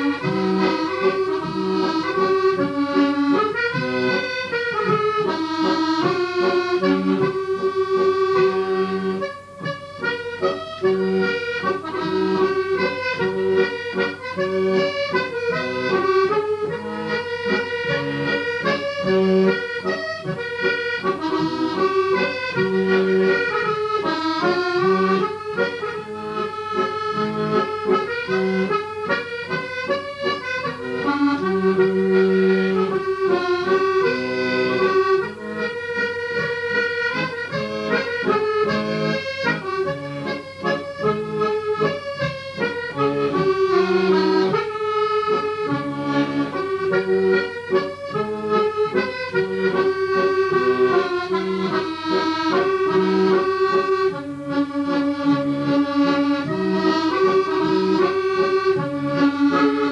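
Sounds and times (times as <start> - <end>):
accordion playing a tune: 0.0 - 59.9.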